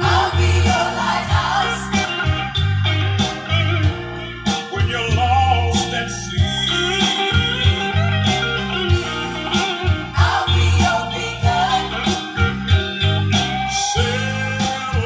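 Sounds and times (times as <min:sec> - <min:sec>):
song with bass drums and guitar: 0:00.0 - 0:15.0.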